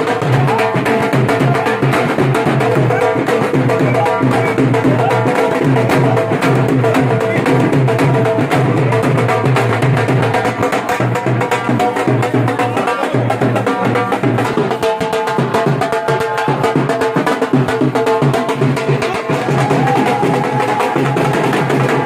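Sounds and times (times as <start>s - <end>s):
barrel drum beaten with sticks: 0.0s - 22.0s.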